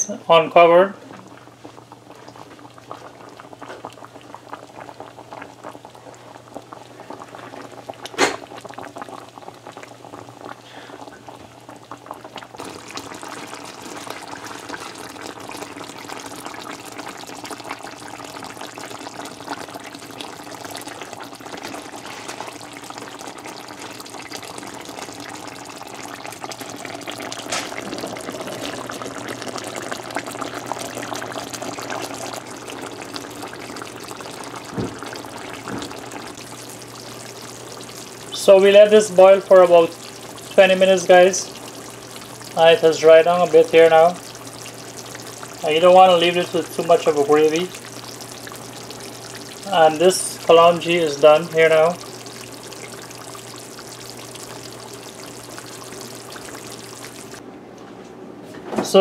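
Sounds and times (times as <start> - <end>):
curry bubbling in a pot: 1.2 - 57.4.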